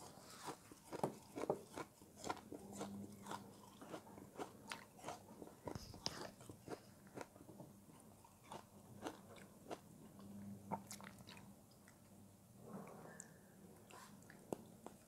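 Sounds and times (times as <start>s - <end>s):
crunchy chewing: 0.0s - 12.2s.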